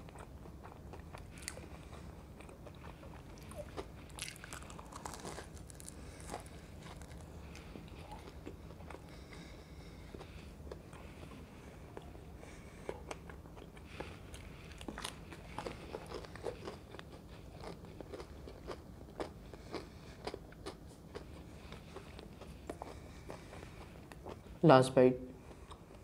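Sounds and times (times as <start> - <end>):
crunching and chewing fried snack: 0.0 - 24.6.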